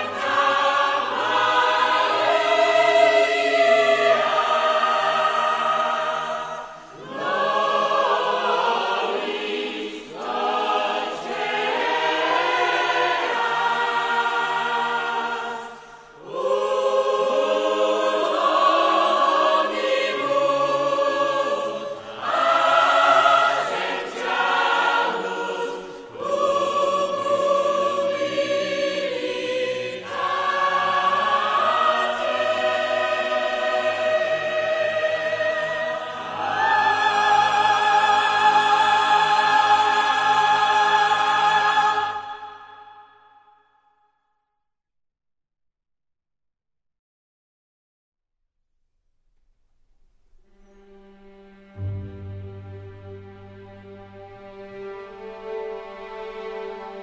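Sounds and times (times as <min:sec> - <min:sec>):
choir singing sustained chords: 0:00.0 - 0:43.9, 0:50.4 - 0:57.0.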